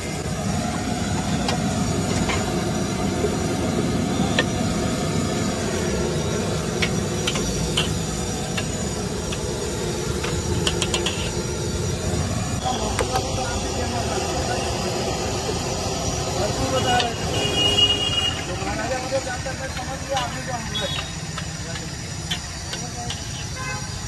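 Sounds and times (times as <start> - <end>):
gas burner roaring: 0.0 - 24.0.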